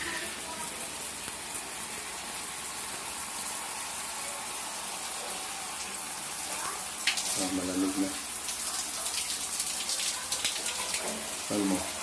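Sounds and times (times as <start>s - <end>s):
water gushing from outlet: 0.0s - 12.0s.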